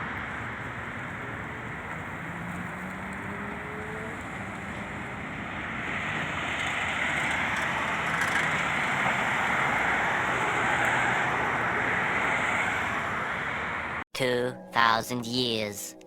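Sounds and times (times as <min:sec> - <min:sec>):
road traffic passing: 0:00.0 - 0:14.1.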